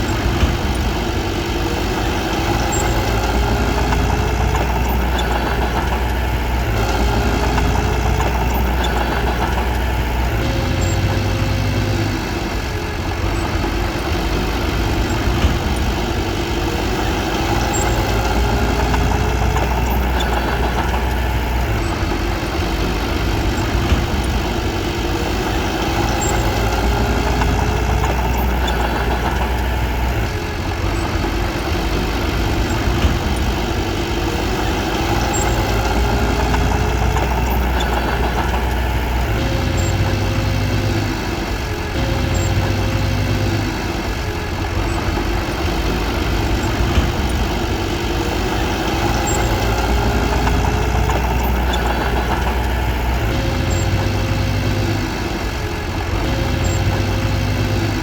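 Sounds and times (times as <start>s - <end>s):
heavy diesel engine rumbling: 0.0s - 58.0s.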